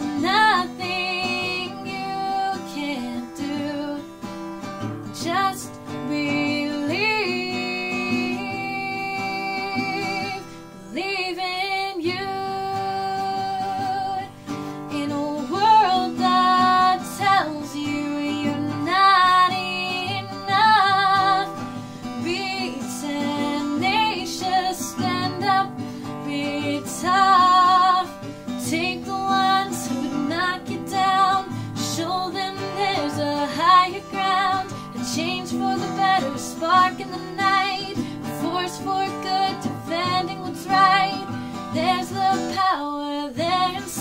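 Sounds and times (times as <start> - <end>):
woman singing with vibrato: 0.0 - 4.2, 5.1 - 44.0
strummed acoustic guitar: 0.0 - 44.0.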